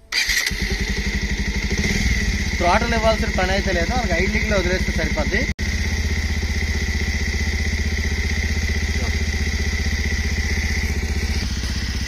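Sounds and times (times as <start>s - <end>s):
motorcycle engine idling: 0.2s - 12.0s.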